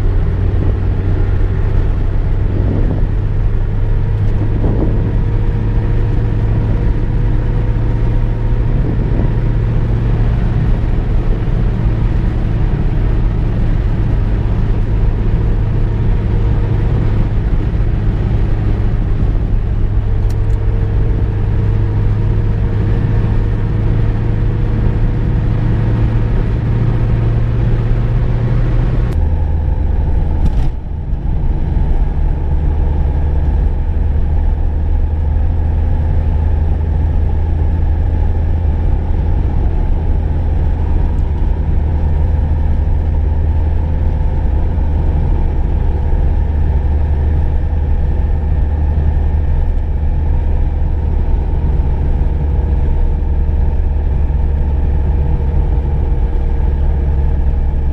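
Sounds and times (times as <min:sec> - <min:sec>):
car engine hum: 0:00.0 - 0:57.9
road and tyre noise: 0:00.0 - 0:57.9.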